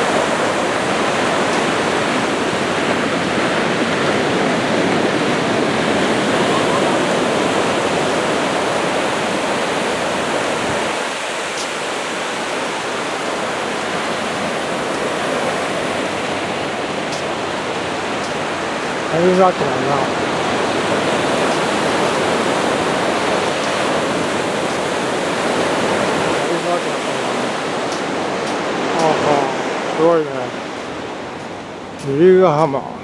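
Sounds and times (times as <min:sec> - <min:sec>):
waves washing onto sand beach: 0:00.0 - 0:33.0.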